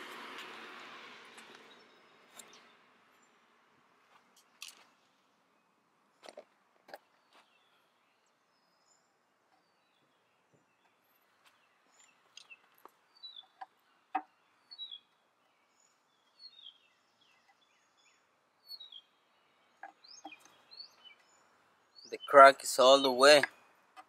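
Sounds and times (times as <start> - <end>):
small birds chirping: 1.2 - 24.0.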